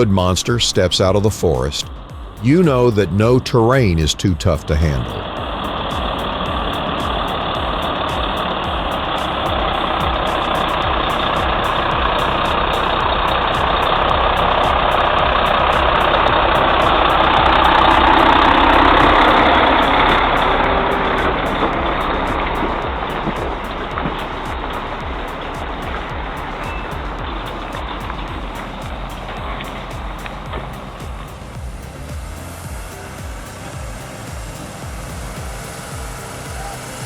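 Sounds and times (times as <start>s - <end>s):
truck engine running: 0.9s - 37.0s.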